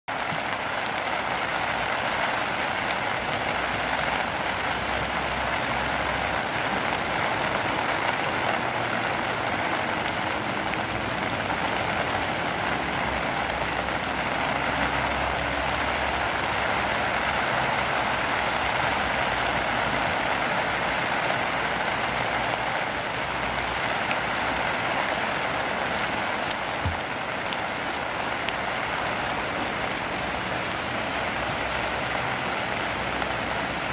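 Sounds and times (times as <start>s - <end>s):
rain falling: 0.1s - 33.9s
raindrops ticking: 0.1s - 33.9s.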